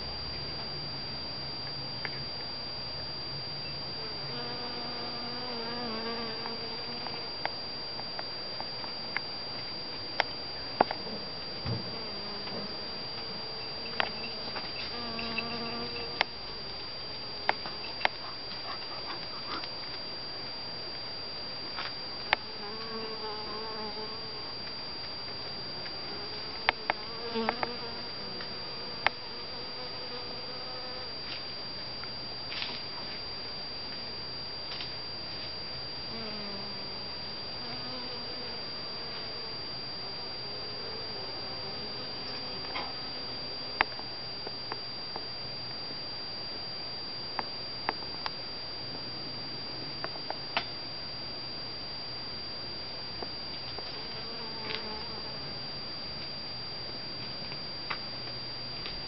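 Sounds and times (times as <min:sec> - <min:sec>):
honeybee buzzing: 0:00.0 - 0:46.1, 0:52.7 - 0:56.1
faint high whine: 0:00.0 - 0:59.0.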